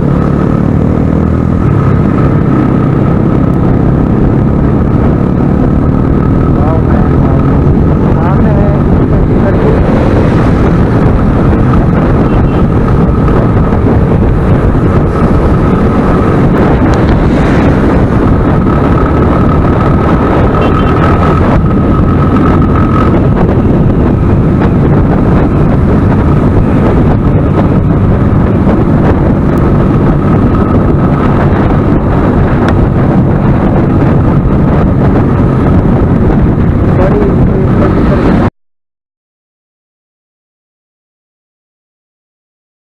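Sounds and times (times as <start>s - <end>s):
motorcycle engine running: 0.0s - 38.5s
wind rush on microphone: 0.0s - 38.5s.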